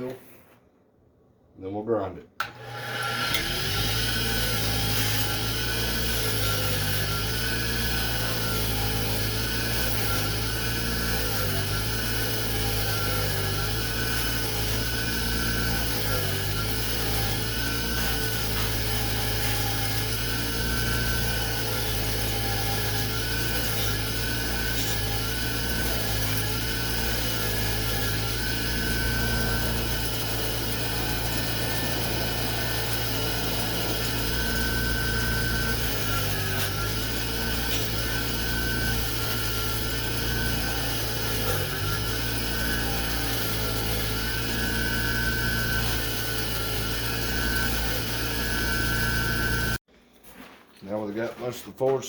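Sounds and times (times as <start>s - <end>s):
wire wheel grinding steel: 2.6s - 49.8s.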